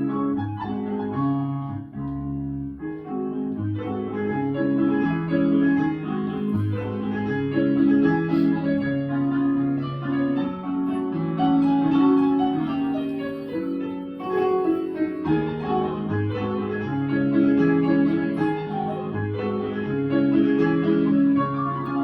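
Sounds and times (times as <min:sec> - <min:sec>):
slow lyrical piano piece: 0:00.0 - 0:22.0.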